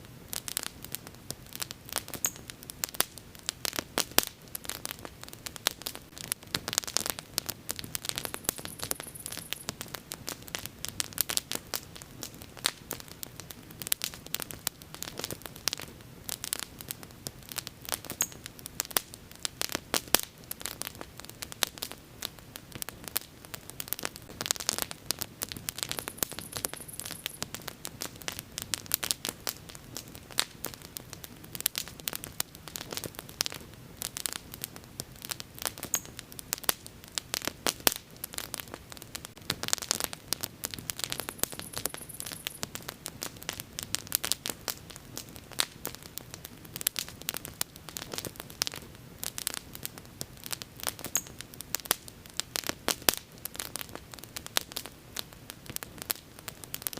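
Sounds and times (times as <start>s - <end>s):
low rumble of flame: 0.0s - 56.9s
wood fire crackling and popping: 0.0s - 56.9s.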